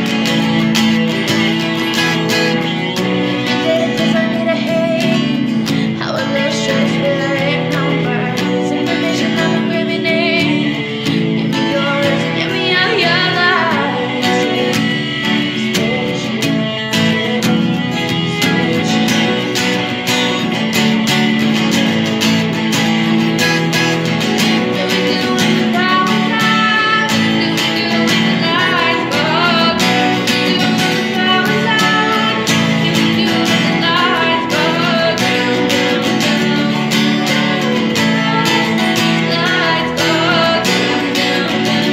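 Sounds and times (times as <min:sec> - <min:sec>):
woman singing: 0:00.0 - 0:22.0, 0:24.3 - 0:41.9
acoustic guitar strumming: 0:00.0 - 0:41.9.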